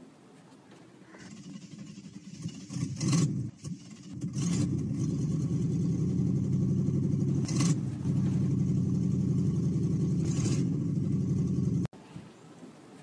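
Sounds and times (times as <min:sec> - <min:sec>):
car engine running: 0:01.3 - 0:11.9.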